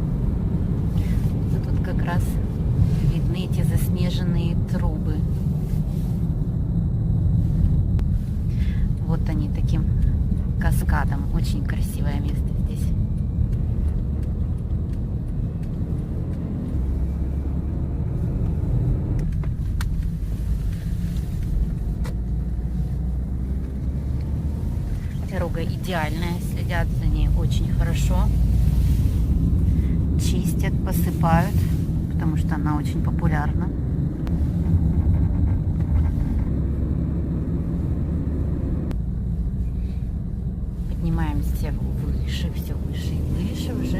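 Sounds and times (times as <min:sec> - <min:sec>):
car road noise rumble: 0:00.0 - 0:43.9.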